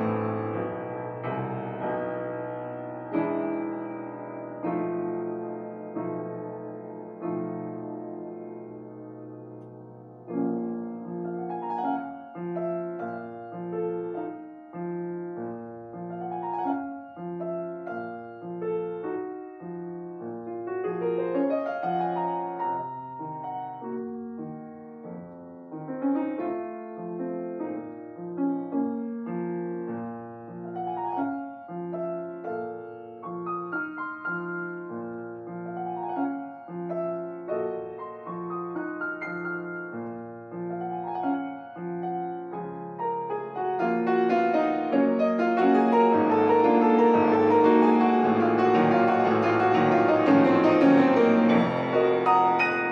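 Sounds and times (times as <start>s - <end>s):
solo piano classical piece: 0.0s - 52.9s.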